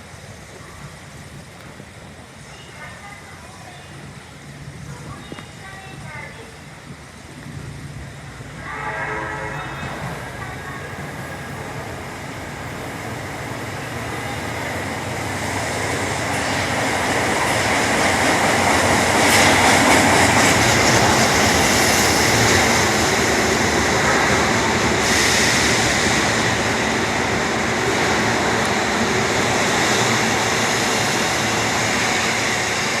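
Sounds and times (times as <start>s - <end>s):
subway train rolling: 0.0s - 33.0s.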